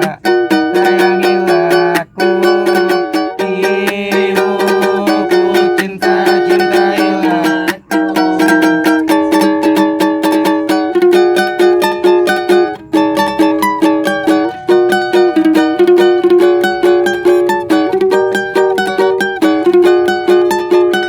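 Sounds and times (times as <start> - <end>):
plucked string instrument strumming: 0.0 - 21.0.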